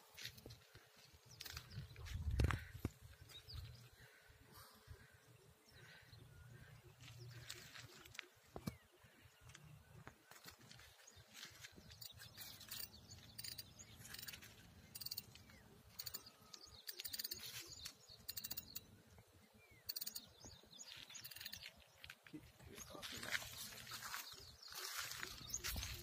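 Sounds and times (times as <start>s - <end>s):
faint bird chirps and trills: 0.2s - 26.0s.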